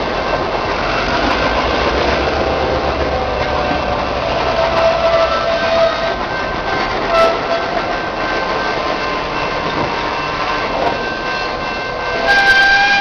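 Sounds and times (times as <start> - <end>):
diesel locomotive engine rumble: 0.0 - 13.0
rolling train wheels: 0.0 - 13.0.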